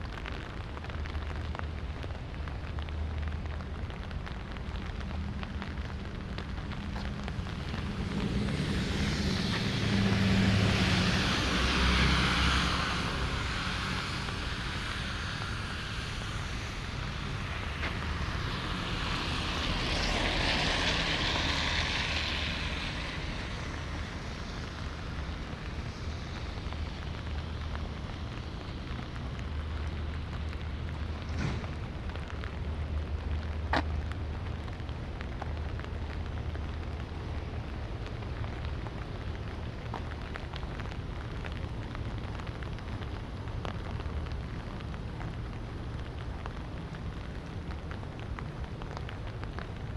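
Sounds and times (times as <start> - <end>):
light rain: 0.0 - 49.9
tyres hissing on wet road: 0.0 - 49.9.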